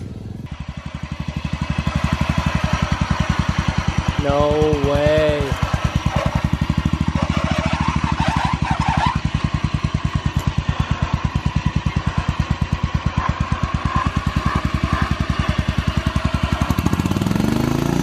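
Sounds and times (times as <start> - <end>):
lawnmower engine chugging: 0.0 - 18.0.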